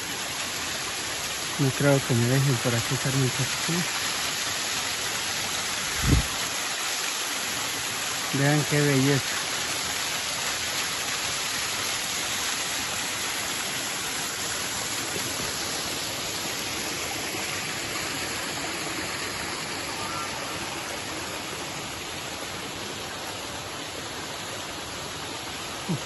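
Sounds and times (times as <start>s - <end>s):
waterfall splashing into pool: 0.0s - 26.0s.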